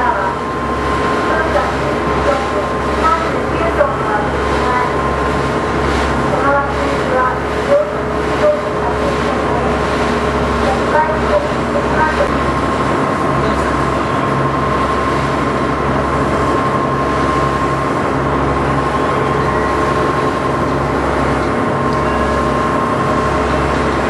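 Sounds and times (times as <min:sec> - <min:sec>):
boat engine droning: 0:00.0 - 0:24.0
steady engine whine: 0:00.0 - 0:24.0.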